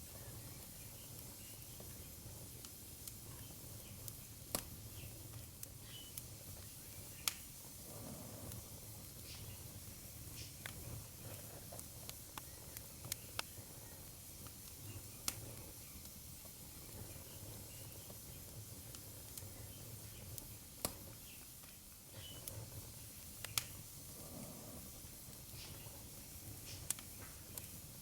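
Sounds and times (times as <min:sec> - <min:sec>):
fireplace fire crackling and snapping: 0:00.0 - 0:28.0.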